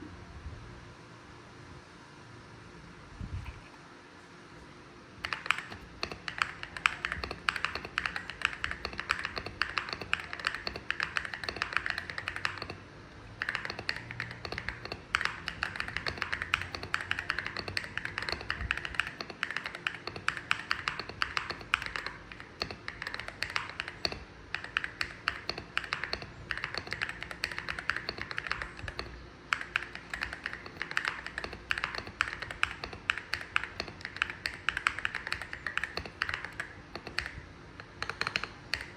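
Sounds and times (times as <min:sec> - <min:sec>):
mechanical keyboard typing: 0:05.2 - 0:38.9.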